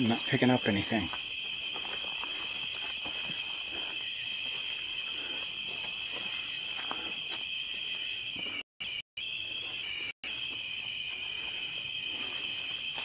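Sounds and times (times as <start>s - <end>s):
crickets chirping drone: 0.0s - 13.0s.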